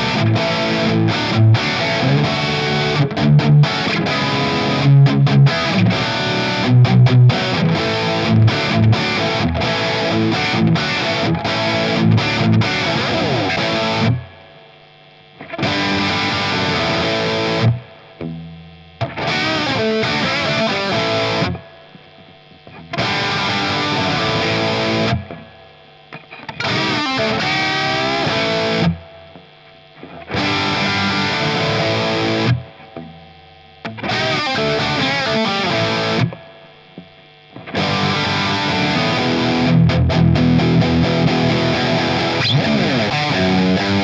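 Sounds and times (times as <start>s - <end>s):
distorted electric guitar: 0.0s - 44.0s.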